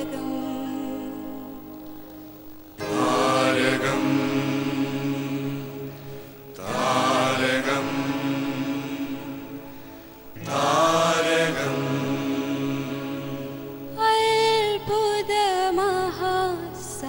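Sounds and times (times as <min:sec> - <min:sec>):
choir singing held chords: 0:00.0 - 0:16.8.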